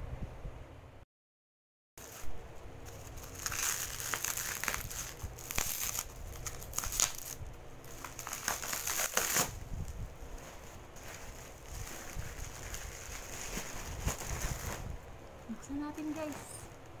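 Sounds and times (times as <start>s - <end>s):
plastic wrap crinkling: 2.0s - 17.0s.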